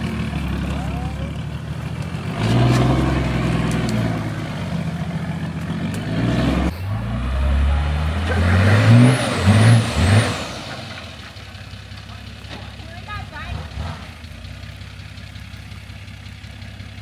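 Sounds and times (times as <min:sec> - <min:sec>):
engine pulling and revving: 0:00.0 - 0:17.0.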